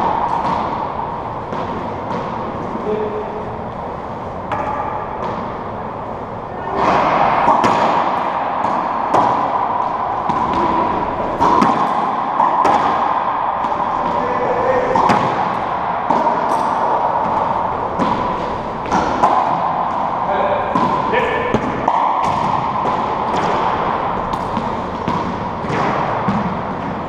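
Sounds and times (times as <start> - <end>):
rubber ball hitting court walls: 0.0 - 3.3, 4.4 - 5.7, 6.6 - 27.0
racquet smacking ball: 0.0 - 3.5, 4.3 - 5.7, 6.6 - 27.0
steady noisy hiss: 0.0 - 27.0.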